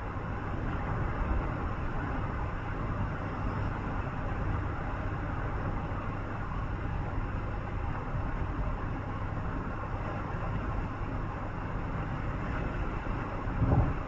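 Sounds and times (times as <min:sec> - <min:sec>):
vehicle road noise: 0:00.0 - 0:14.0.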